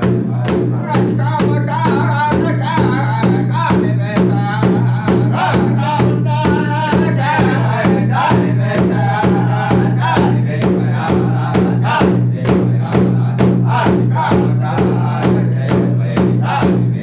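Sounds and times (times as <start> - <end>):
group singing high wavering voices: 0.0 - 17.0
powwow drum beating: 0.0 - 17.0.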